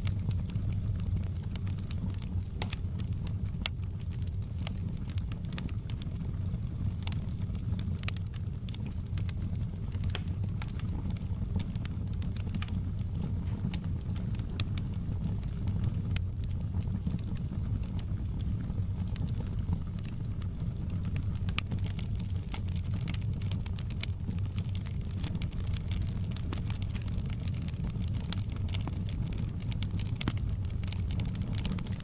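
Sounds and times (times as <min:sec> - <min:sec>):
logs crackling and popping: 0:00.0 - 0:32.0
low rumble of flames: 0:00.0 - 0:32.0.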